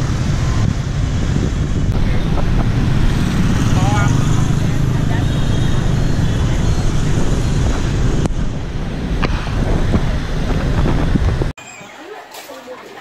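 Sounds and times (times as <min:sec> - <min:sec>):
wind buffeting microphone: 0:00.0 - 0:11.6
street traffic: 0:00.0 - 0:13.0.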